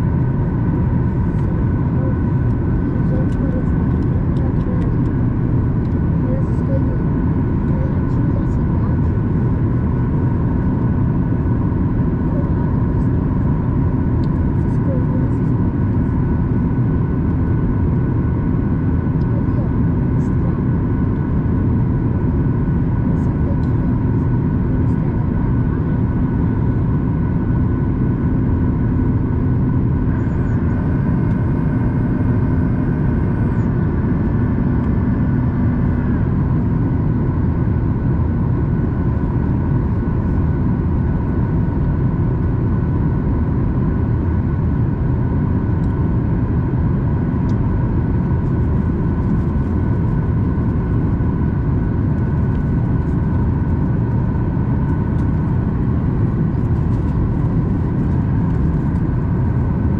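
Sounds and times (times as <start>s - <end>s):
airplane cabin noise: 0.0s - 59.9s
steady hum of tones: 0.0s - 59.9s.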